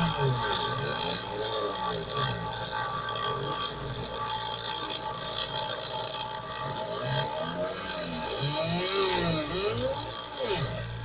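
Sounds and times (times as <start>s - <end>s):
small motor whining: 0.0s - 11.0s
stepper motors humming: 0.0s - 11.0s.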